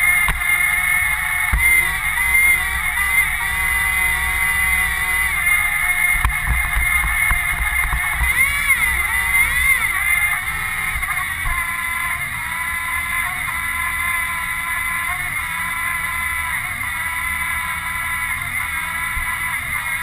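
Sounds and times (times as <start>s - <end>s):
robot motors whining: 0.0s - 20.0s.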